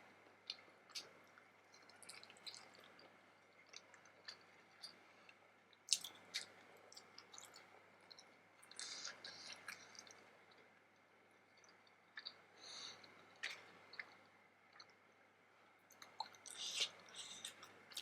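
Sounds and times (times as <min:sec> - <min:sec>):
soft wet chewing: 0:00.0 - 0:18.0.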